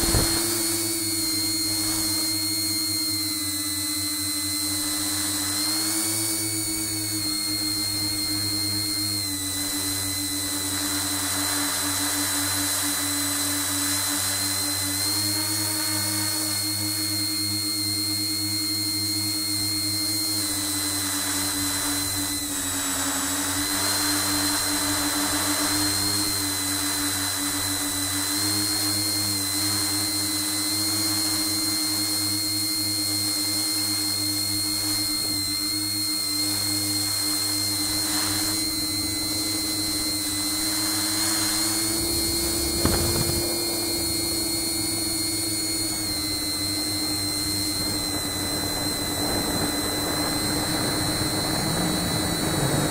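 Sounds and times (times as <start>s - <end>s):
electric motors whining: 0.0s - 52.9s.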